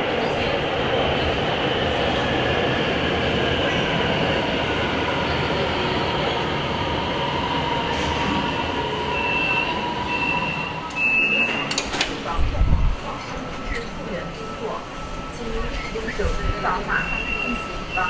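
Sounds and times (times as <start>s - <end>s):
train rail rumble: 0.0s - 18.0s.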